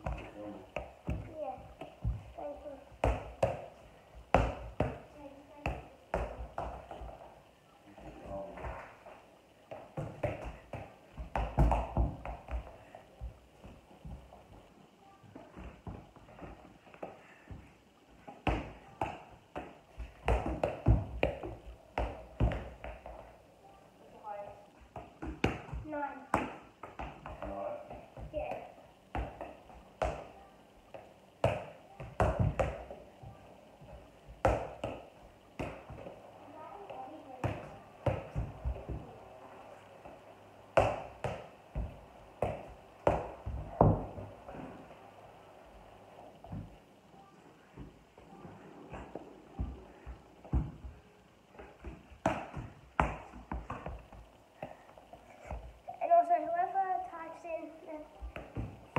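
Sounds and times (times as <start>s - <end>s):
foot tapping soccer ball: 0.0s - 7.4s, 8.0s - 14.7s, 15.3s - 23.4s, 24.8s - 39.2s, 40.0s - 44.8s, 46.4s - 46.8s, 47.7s - 55.8s, 58.2s - 58.9s.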